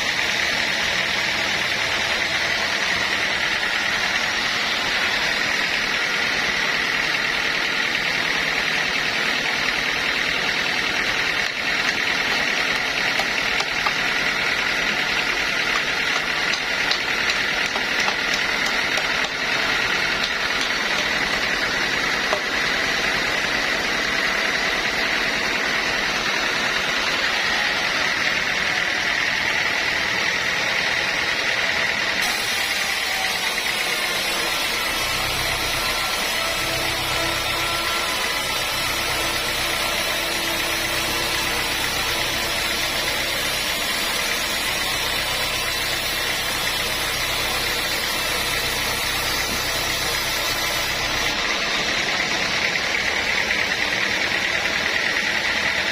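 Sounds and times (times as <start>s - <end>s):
deep motor hum: 0.0s - 55.9s
high steady whine: 0.0s - 55.9s
sawmill machinery din: 0.0s - 55.9s.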